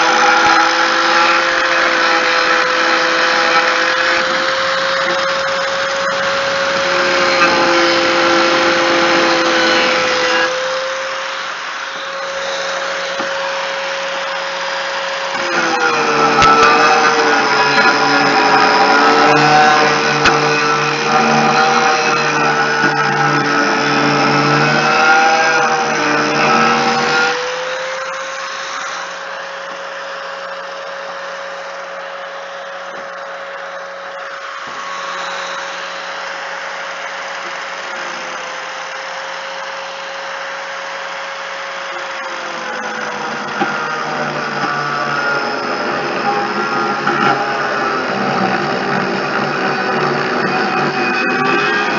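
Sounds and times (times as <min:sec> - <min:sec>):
angle grinder sanding: 0:00.0 - 0:51.9.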